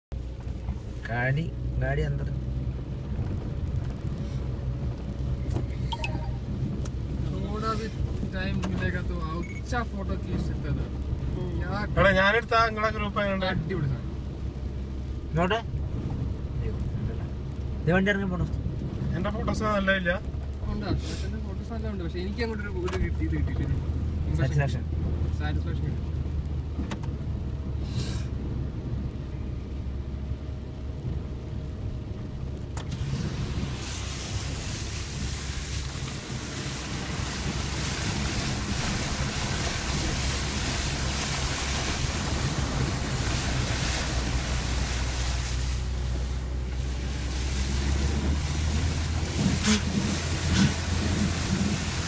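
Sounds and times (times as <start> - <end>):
vehicle engine hum: 0.0 - 52.0.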